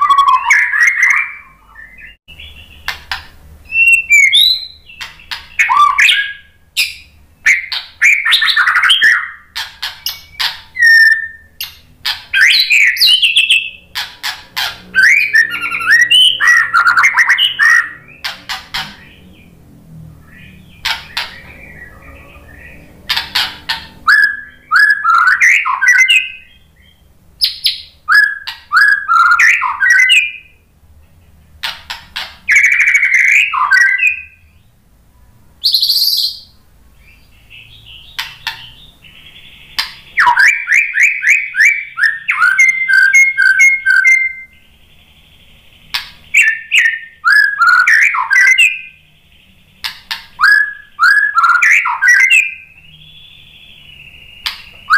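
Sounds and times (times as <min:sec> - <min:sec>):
bird singing whistled notes and trills: 0:00.0 - 0:34.8, 0:35.6 - 0:54.9.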